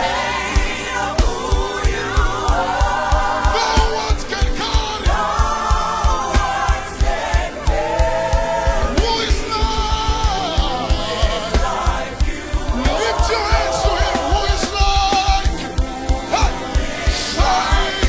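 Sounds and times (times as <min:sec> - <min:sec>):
band with steady low beat: 0:00.0 - 0:18.0
voices singing long notes: 0:00.0 - 0:18.0.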